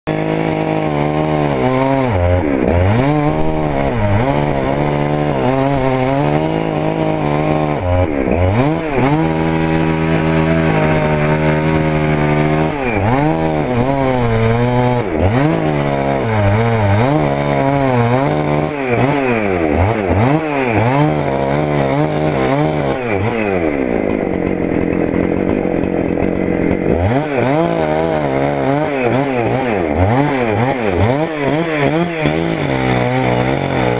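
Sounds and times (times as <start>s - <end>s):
chainsaw engine running: 0.0s - 33.9s.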